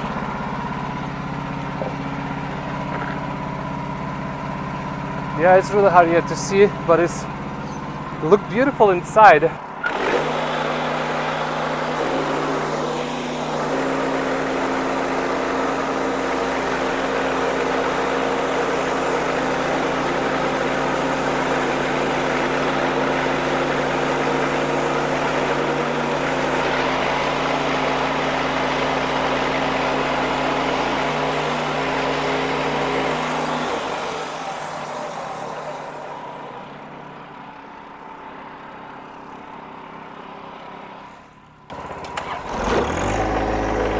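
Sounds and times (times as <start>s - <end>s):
band saw cutting log: 0.0s - 37.1s, 40.4s - 43.9s
sawmill engine running: 0.0s - 43.9s.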